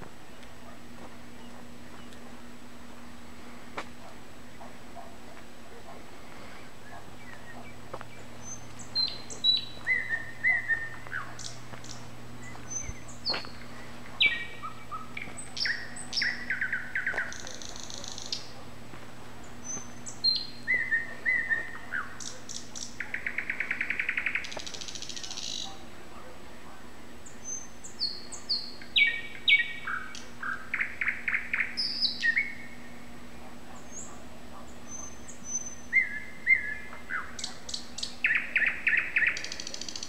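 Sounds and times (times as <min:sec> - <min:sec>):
songbird singing: 0:00.0 - 0:40.0
steady low hum: 0:00.0 - 0:40.0.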